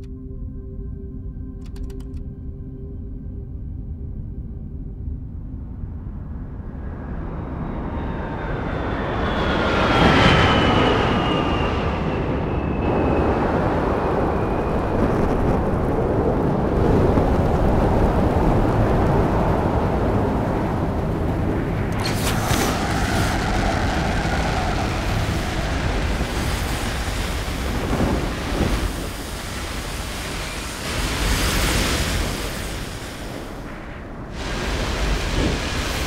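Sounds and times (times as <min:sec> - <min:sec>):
rushing rumble: 0:05.6 - 0:36.0.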